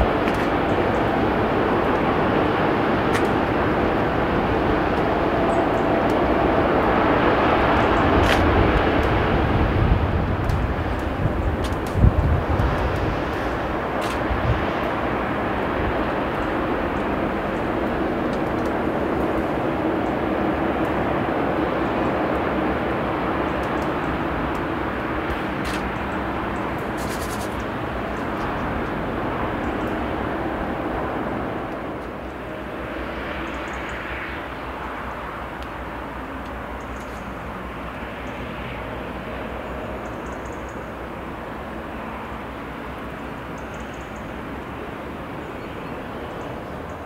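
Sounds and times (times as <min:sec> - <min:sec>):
distant traffic rumble: 0:00.0 - 0:47.0.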